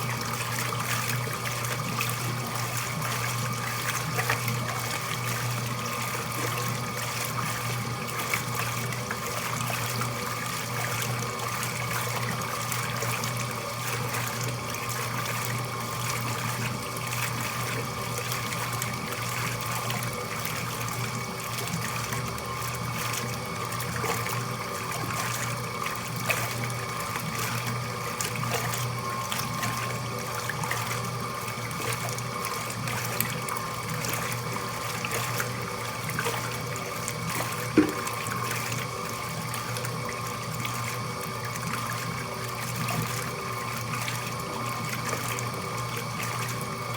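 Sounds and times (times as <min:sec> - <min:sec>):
laundry machine motor hum: 0:00.0 - 0:46.9
water trickling and splashing: 0:00.0 - 0:46.9.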